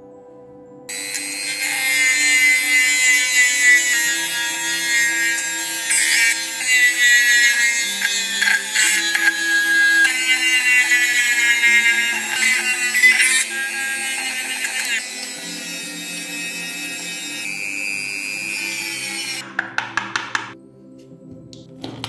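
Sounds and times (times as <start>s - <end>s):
background music with sustained notes: 0.0s - 22.0s.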